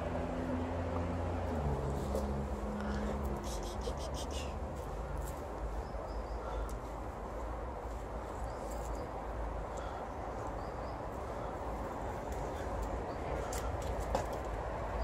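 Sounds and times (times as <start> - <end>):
small birds chirping: 2.8 - 15.0.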